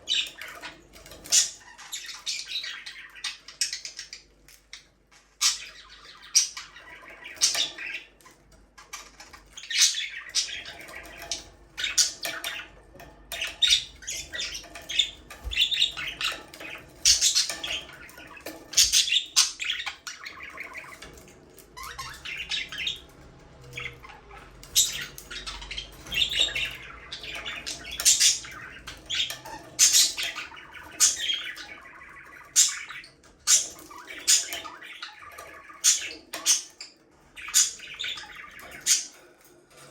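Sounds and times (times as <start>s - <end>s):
budgerigars chirping: 0.0s - 39.8s.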